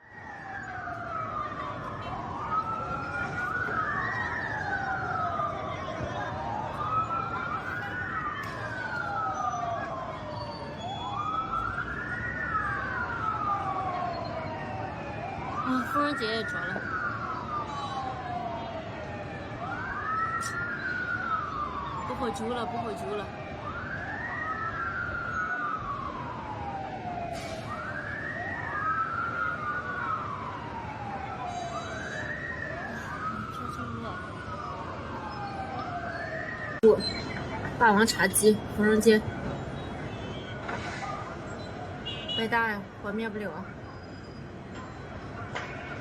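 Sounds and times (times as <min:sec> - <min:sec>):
sirens wailing: 0:00.0 - 0:46.0
steady background noise: 0:00.0 - 0:46.0.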